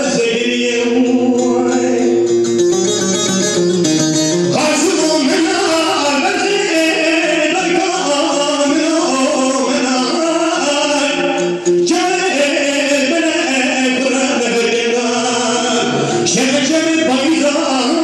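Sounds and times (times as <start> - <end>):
man singing into microphone: 0.0 - 2.4, 4.4 - 18.0
lute strummed: 0.0 - 18.0.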